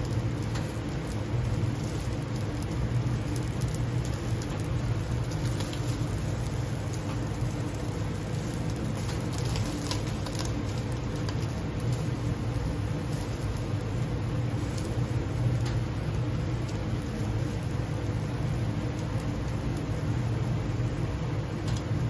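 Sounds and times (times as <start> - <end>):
skewers sizzling on grill: 0.0 - 22.0
steady low hum: 0.0 - 22.0.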